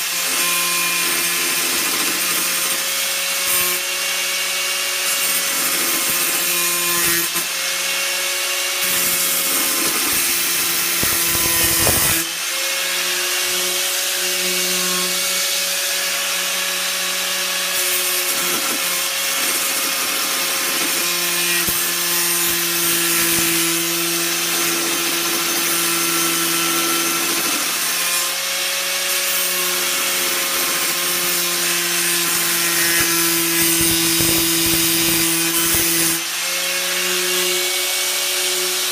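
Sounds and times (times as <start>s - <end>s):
angle grinder cutting steel: 0.0s - 38.9s.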